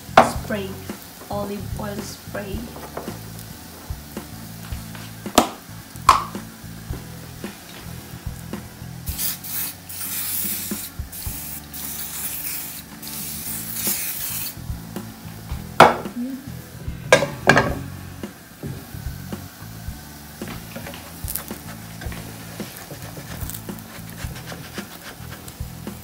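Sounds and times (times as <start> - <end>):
cooking spray hissing: 0.0 - 26.0.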